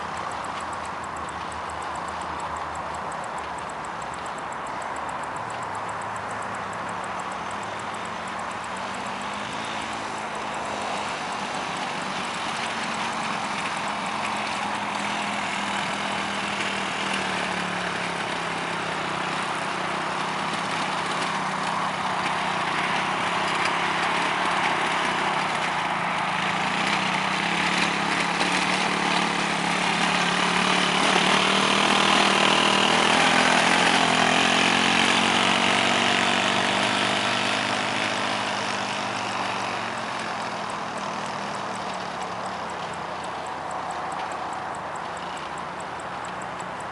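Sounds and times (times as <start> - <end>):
quad bike engine running: 0.0 - 46.9.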